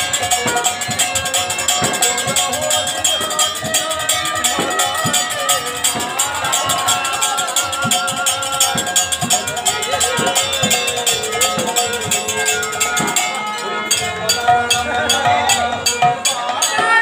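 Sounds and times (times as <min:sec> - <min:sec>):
hand cymbals struck rapidly: 0:00.0 - 0:17.0
held melodic tones: 0:00.0 - 0:17.0.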